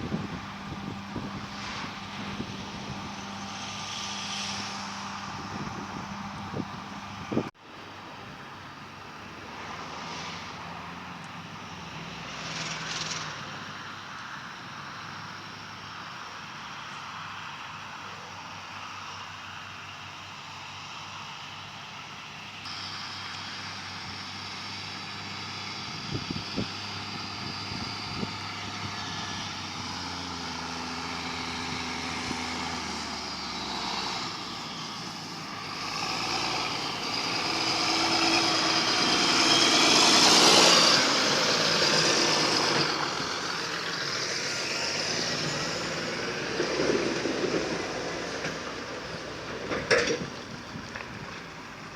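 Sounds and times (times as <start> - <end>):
diesel engine running: 0.0 - 9.5, 10.9 - 51.9.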